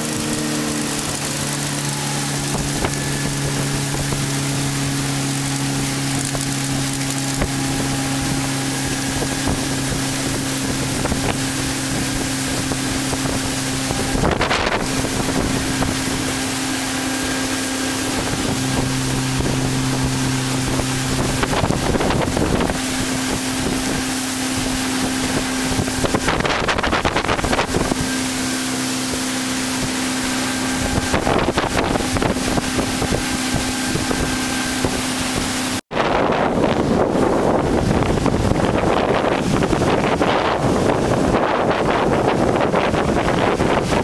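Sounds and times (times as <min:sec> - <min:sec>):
loud rushes of noise: 0:00.0 - 0:44.0
motorboat engine hum: 0:00.0 - 0:44.0
water rushing along hull: 0:00.0 - 0:44.0
wind on microphone: 0:00.0 - 0:44.0.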